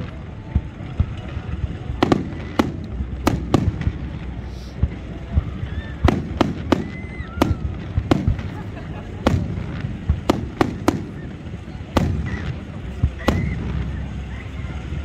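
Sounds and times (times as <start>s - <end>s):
firework shells bursting: 0.0s - 15.0s
steady low rumble: 0.0s - 15.0s.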